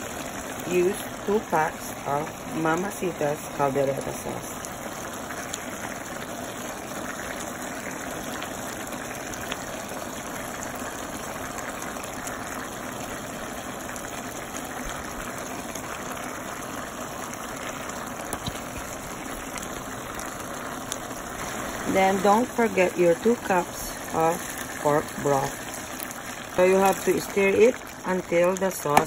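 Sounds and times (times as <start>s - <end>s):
stew bubbling in a pot: 0.0s - 29.0s.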